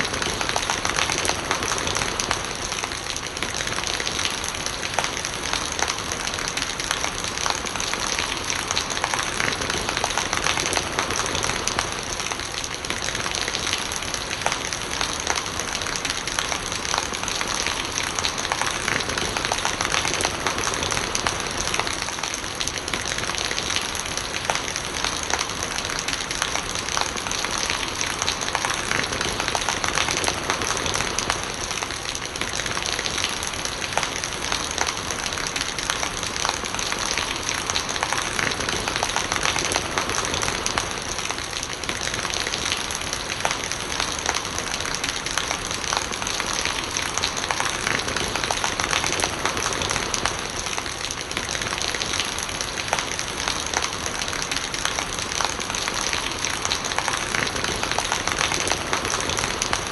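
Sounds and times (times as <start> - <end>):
rainwater gurgling: 0.0 - 59.9
steady rain: 0.0 - 59.9.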